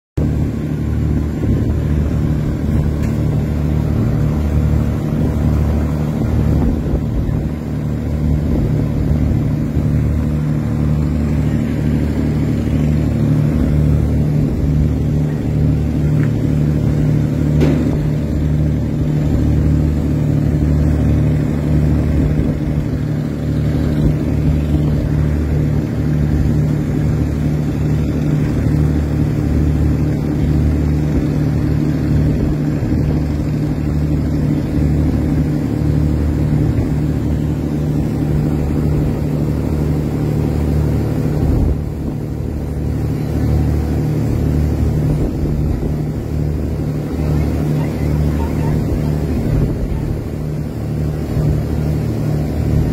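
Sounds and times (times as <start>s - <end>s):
diesel engines droning: 0.2s - 52.9s.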